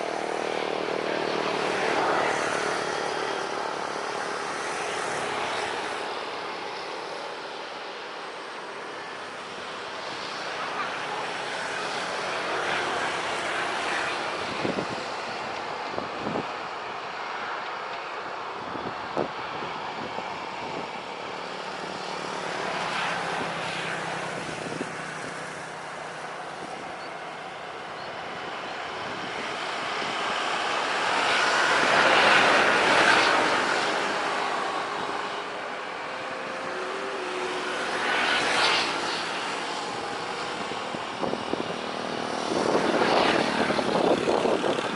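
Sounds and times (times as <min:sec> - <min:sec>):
jet engines rushing: 0:00.0 - 0:44.9.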